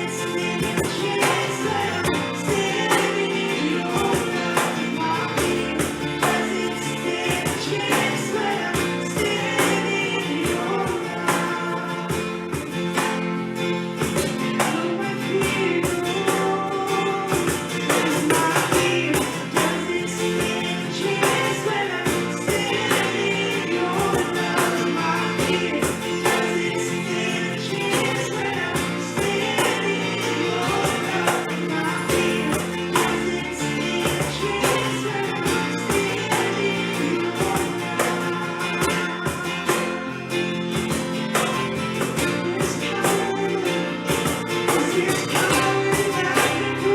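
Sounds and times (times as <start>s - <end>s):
band playing worship music: 0.0s - 46.9s.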